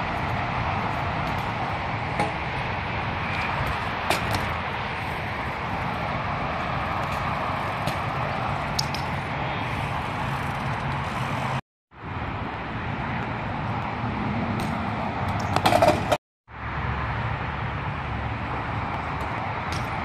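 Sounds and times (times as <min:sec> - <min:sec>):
bike tyres rolling on concrete: 0:00.0 - 0:16.2, 0:16.9 - 0:20.0.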